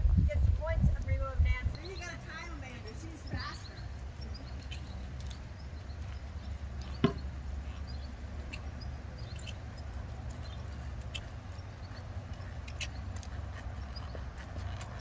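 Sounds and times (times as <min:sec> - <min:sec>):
hoof steps on sand: 0:01.8 - 0:15.0.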